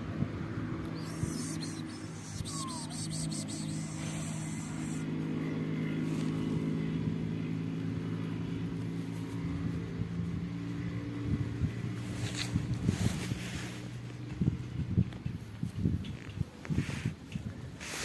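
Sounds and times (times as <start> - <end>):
engine running with low hum: 0.0 - 18.0.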